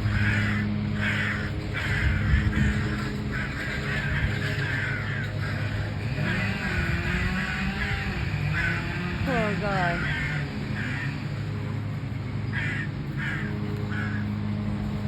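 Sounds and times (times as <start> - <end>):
crows cawing: 0.0 - 11.8, 12.5 - 14.4.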